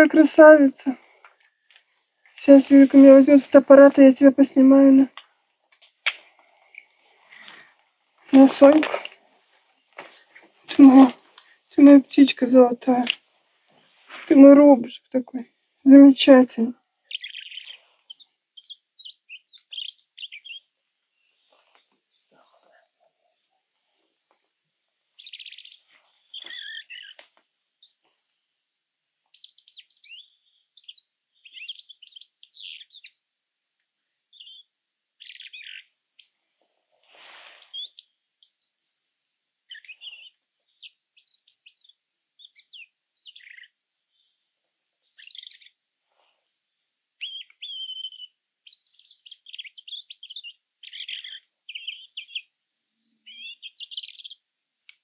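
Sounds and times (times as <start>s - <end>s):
robin singing: 0.0s - 5.2s, 6.3s - 9.2s, 9.8s - 13.2s, 13.8s - 24.6s, 25.2s - 55.0s.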